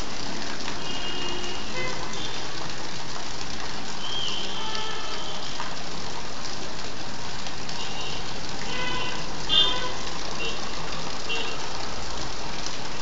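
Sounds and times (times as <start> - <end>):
water splashing onto concrete: 0.0 - 13.0.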